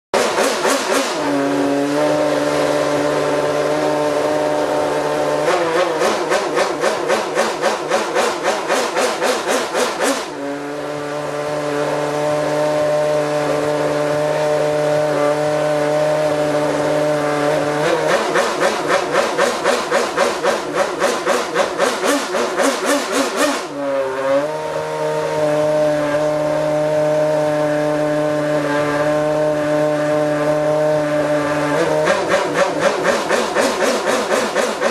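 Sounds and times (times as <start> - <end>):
racing car engine idling and revving: 0.1 - 34.9.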